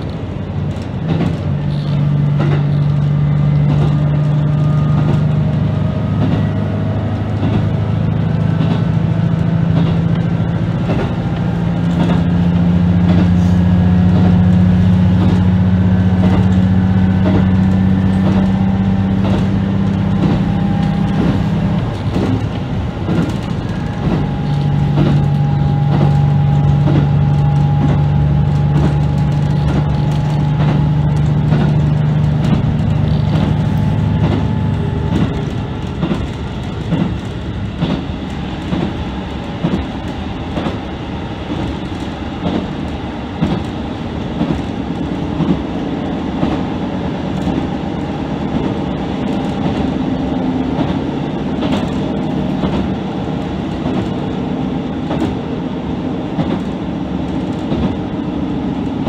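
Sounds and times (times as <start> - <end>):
wheels clicking over rail joints: 0.0 - 55.5, 56.2 - 59.0
train engine drone: 0.0 - 59.0.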